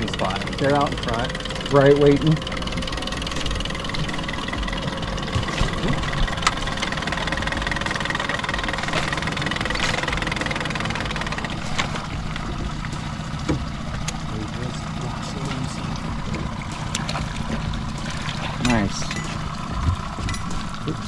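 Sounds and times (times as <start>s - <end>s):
outboard boat motor idling: 0.0s - 21.0s.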